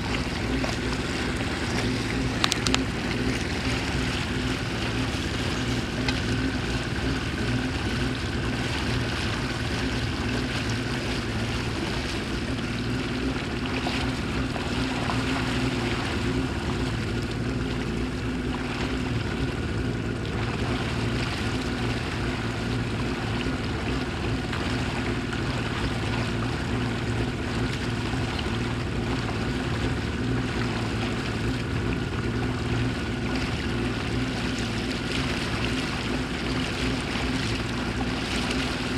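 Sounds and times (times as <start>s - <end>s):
boat motor running: 0.0s - 38.9s.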